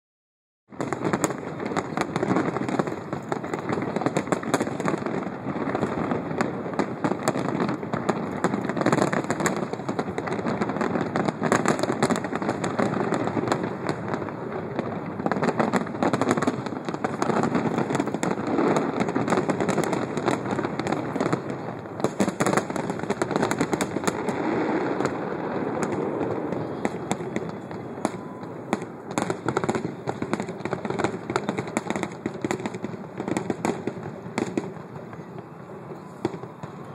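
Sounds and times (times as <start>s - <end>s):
fireworks booming and crackling: 0.7s - 36.9s.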